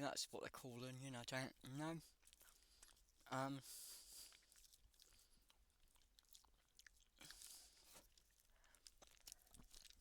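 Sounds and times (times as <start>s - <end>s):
soft chewing: 1.5s - 10.0s.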